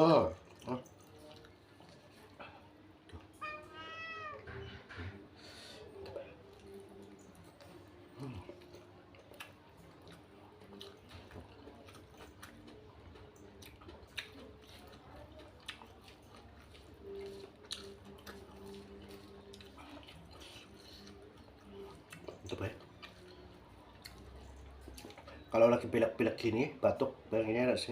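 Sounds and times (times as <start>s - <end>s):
person chewing and eating: 0.3s - 4.5s, 6.0s - 25.5s.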